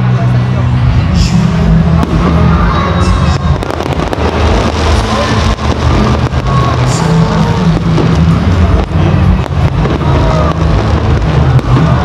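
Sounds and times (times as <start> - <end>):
loud low rumble: 0.0 - 12.0
fireworks bangs and crackles: 1.1 - 12.0.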